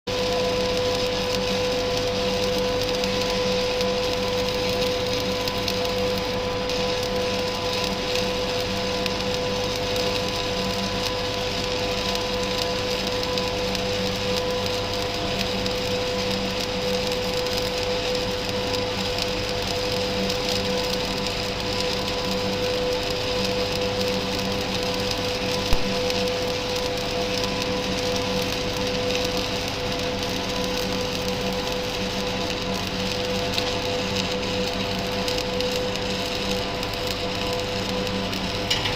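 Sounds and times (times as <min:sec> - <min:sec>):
steady hum: 0:00.1 - 0:38.9
welding hiss: 0:00.1 - 0:38.9.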